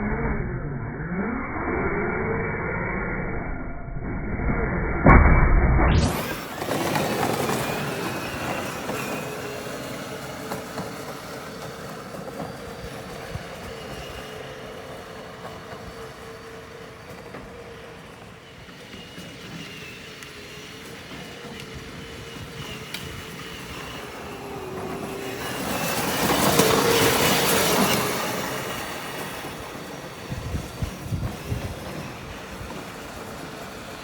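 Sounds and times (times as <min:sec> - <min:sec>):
rolling wheel noise: 0:06.0 - 0:34.0.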